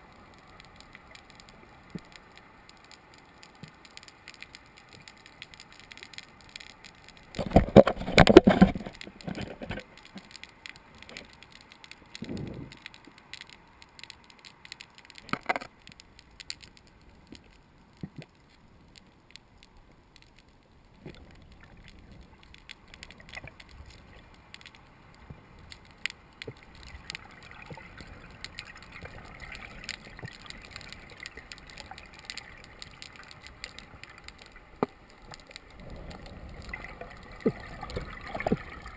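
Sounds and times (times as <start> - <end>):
small clicks: 0.0 - 38.9
underwater bubbling and gurgling: 0.0 - 38.9.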